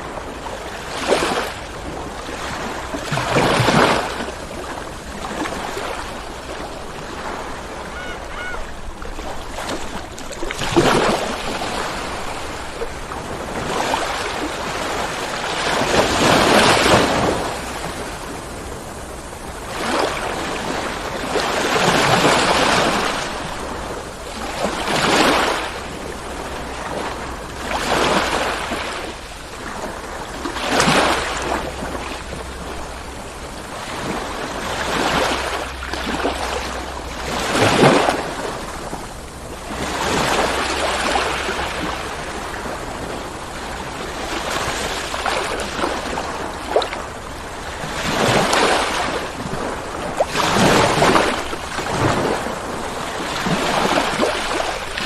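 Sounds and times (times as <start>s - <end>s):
low rumble of surf: 0.0s - 55.0s
ocean waves breaking on shore: 0.0s - 55.0s.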